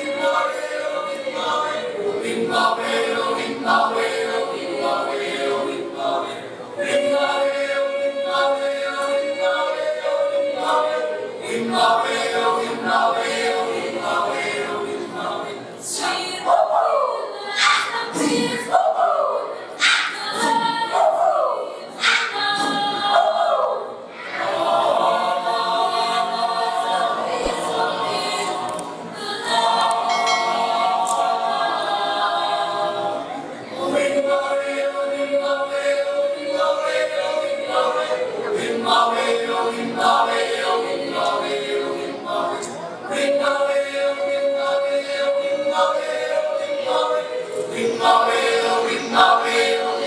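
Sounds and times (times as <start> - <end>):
choir singing in harmony: 0.0 - 50.0.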